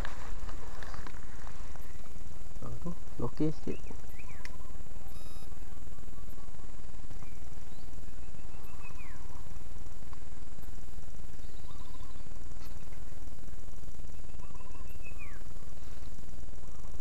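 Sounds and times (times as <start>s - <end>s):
faint bird calls: 0.0s - 13.2s, 14.0s - 17.0s
low outdoor rumble: 0.0s - 17.0s.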